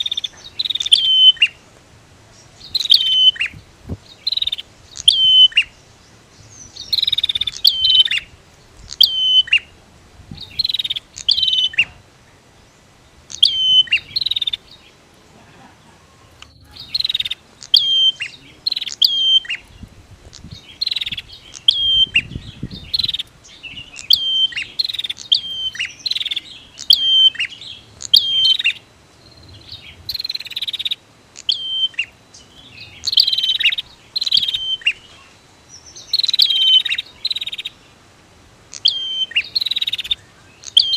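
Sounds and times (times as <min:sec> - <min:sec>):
bird singing and calling: 0:00.0 - 0:38.0, 0:38.6 - 0:40.9.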